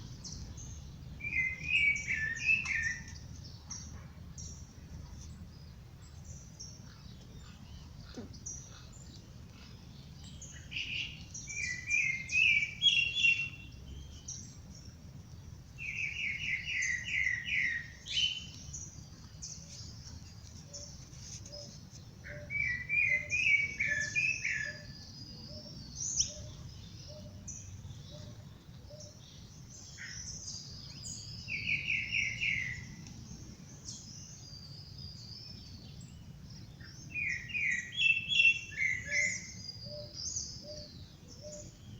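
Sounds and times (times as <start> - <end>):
birds high thin chirping: 0.0 - 41.9.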